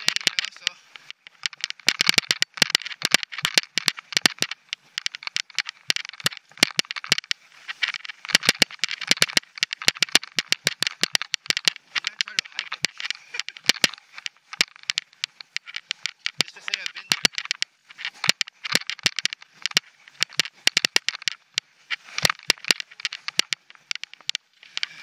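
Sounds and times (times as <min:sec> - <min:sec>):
mountain bike rattling over rocks: 0:00.0 - 0:25.0.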